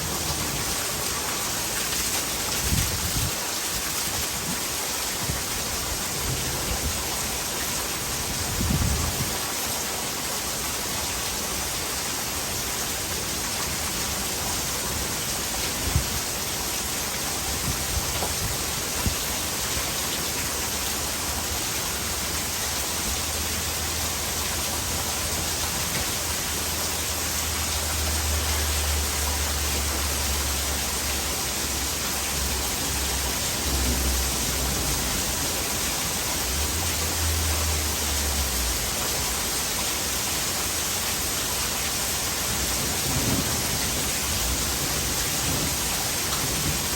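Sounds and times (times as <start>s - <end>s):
heavy rain falling: 0.0s - 46.9s
rainwater pouring into gutter: 0.0s - 46.9s.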